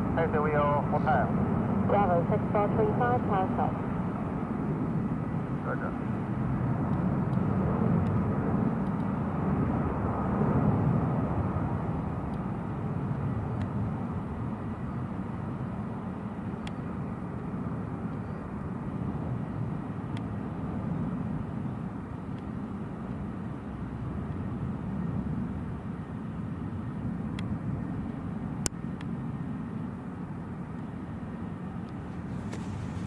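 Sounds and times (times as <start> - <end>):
distant jet engines rumbling: 0.0 - 33.0.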